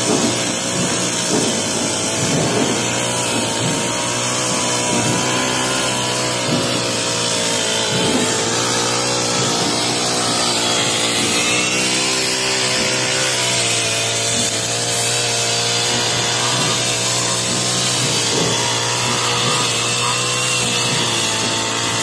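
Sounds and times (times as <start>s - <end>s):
brush cutter cutting grass: 0.0s - 22.0s.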